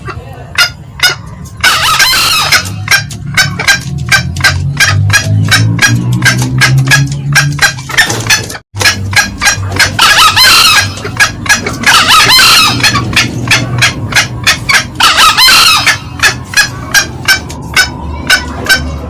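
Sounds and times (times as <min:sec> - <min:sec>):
junglefowl clucking: 0:00.0 - 0:19.0
junglefowl crowing: 0:00.0 - 0:19.0.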